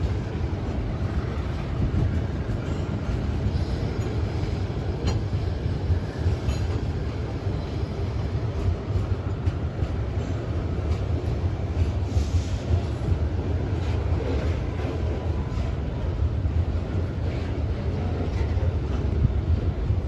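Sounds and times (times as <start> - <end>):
rumble of train wheels on rail: 0.0 - 20.0.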